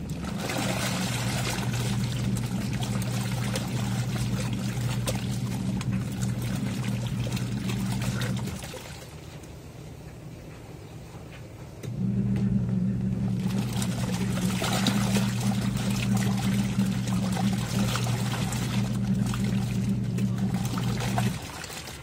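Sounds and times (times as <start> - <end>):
water churning and sloshing: 0.0 - 10.5, 13.0 - 22.0
washing machine motor hum: 0.0 - 22.0.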